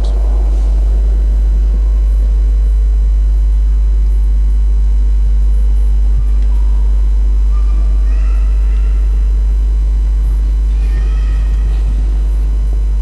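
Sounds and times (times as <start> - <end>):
loud low hum: 0.0 - 13.0.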